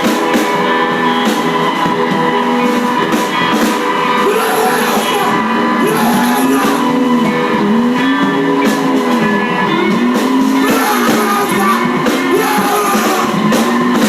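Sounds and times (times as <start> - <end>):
distorted electric guitar drones: 0.0 - 14.0
steady high whine: 0.0 - 14.0.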